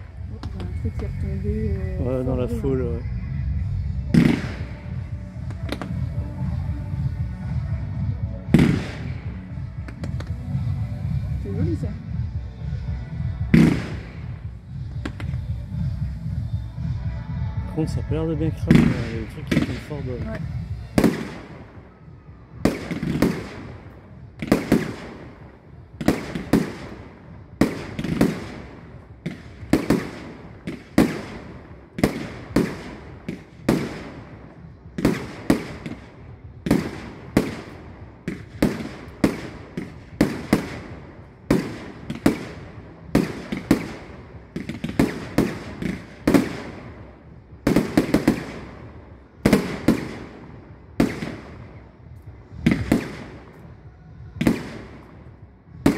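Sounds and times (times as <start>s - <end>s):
fireworks bursting with echo: 0.0s - 55.9s.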